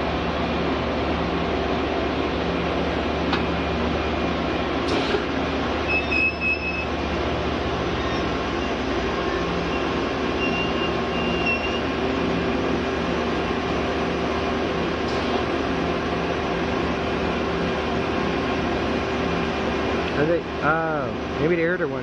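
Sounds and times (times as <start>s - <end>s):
train engines humming: 0.0s - 22.0s.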